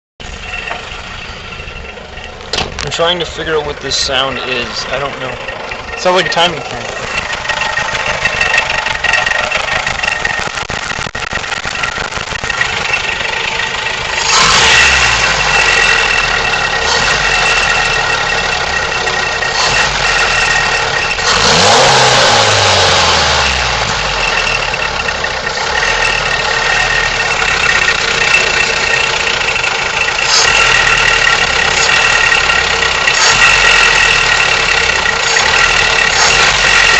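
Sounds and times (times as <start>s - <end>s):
car engine running with rattle: 0.2s - 36.9s.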